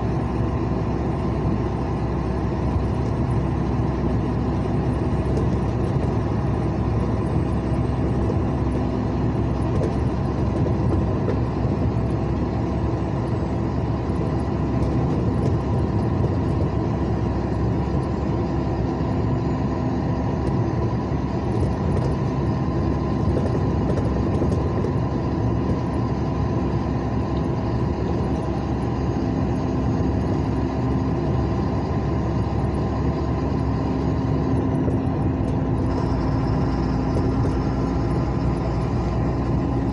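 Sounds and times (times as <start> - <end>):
vehicle engine and tyre noise: 0.0 - 39.9.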